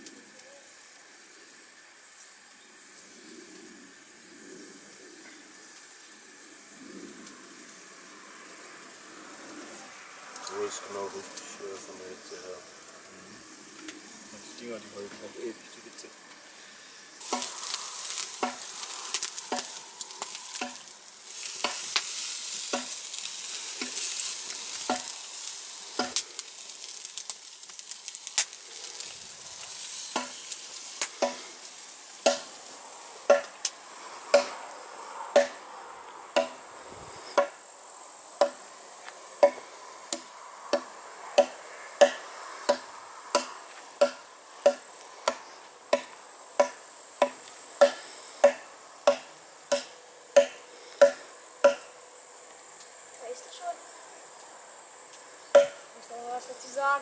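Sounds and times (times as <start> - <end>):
meat sizzling on a grill: 0.0 - 49.8, 50.7 - 57.0.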